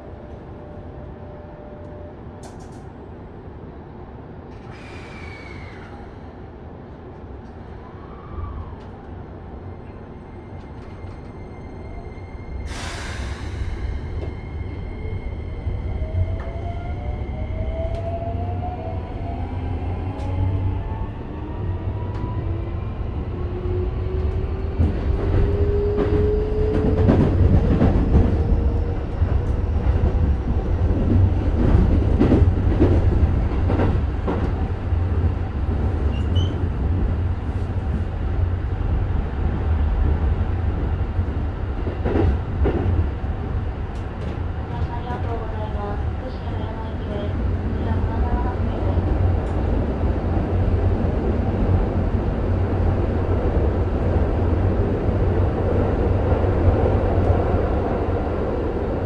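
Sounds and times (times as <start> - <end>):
low train running rumble: 0.0 - 59.0.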